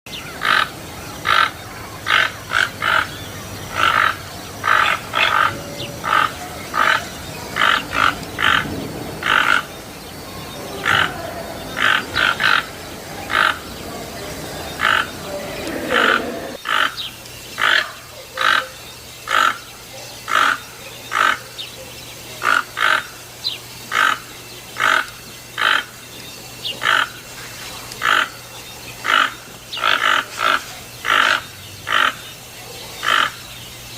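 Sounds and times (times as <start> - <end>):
toucan croaking calls: 0.1 - 33.9.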